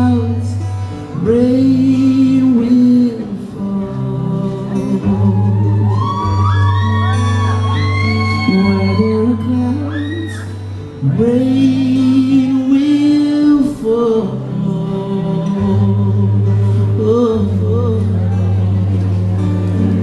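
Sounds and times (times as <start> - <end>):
person singing long notes: 1.1 - 20.0.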